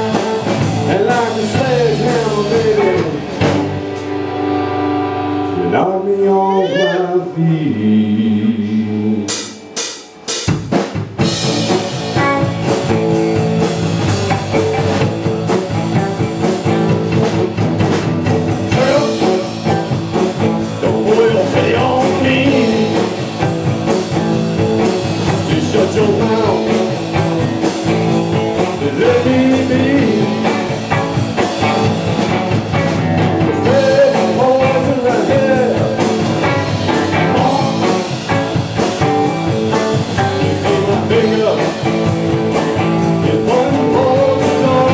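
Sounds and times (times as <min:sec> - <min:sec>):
guitar melody: 0:00.0 - 0:05.8, 0:11.2 - 0:44.9
live blues-rock band playing: 0:00.0 - 0:44.9.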